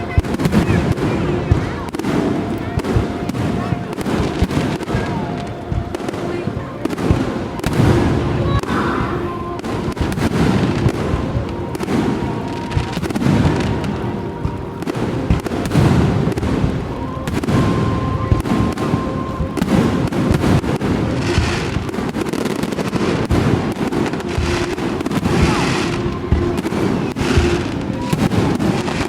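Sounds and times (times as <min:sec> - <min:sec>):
fireworks booming and crackling: 0:00.0 - 0:29.0.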